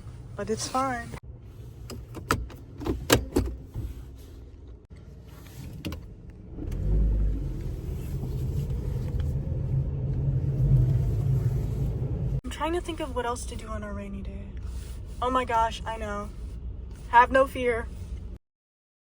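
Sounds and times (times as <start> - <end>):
car engine starting and running: 0.0 - 18.4.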